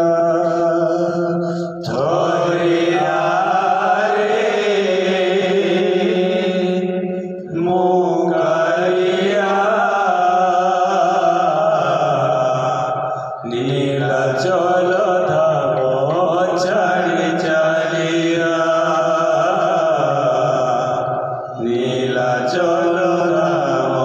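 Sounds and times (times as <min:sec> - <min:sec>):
men singing together: 0:00.0 - 0:24.0.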